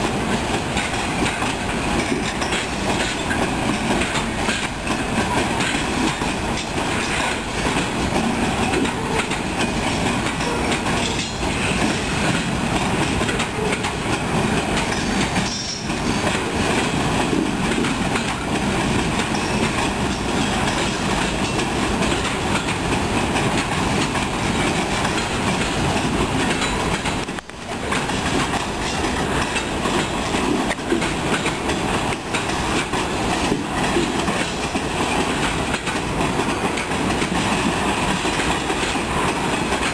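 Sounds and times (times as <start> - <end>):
freight train cars rolling: 0.0 - 39.9
wheels clacking over rail joints: 0.0 - 39.9.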